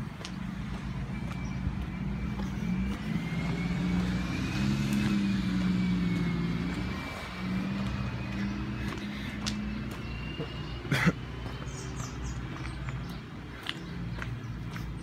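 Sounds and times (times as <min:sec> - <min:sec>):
diesel truck engine drone: 0:00.0 - 0:15.0.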